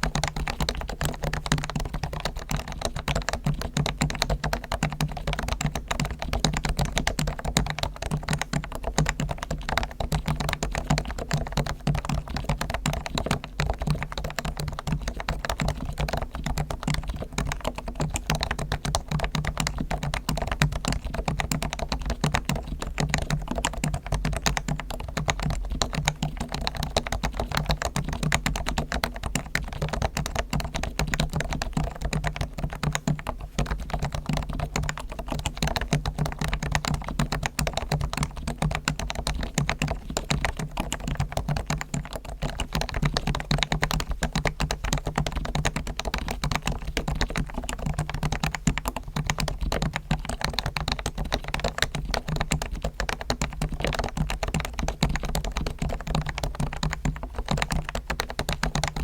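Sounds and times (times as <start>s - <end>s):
fast keyboard typing: 0.0s - 59.0s.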